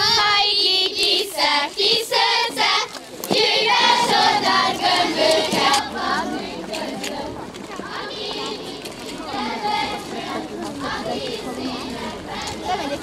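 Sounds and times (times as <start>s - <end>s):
girls singing a folk song: 0.0s - 13.0s.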